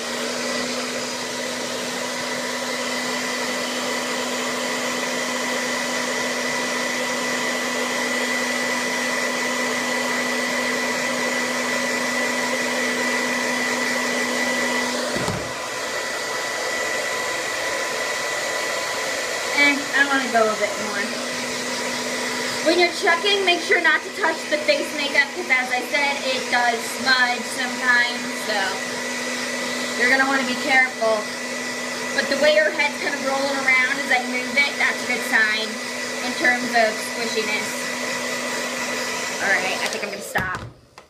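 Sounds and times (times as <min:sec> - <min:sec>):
hair dryer blowing: 0:00.0 - 0:41.0.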